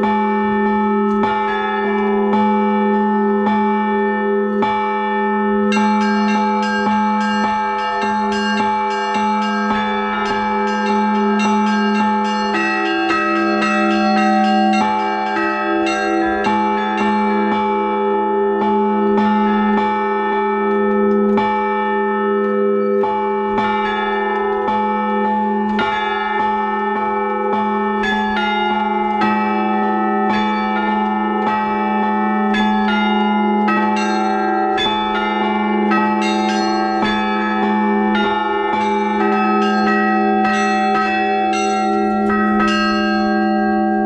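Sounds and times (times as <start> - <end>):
church bells pealing: 0.0 - 44.0
low bell hum: 0.0 - 44.0.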